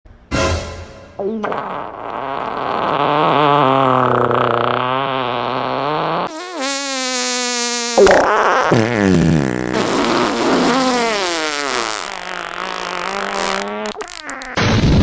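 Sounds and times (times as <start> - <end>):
fart sounds: 1.2 - 15.0.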